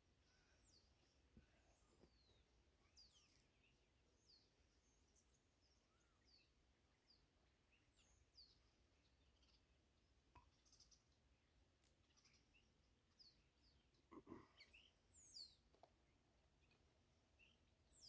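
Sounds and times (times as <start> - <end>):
faint birdsong chirps: 0.0 - 18.0.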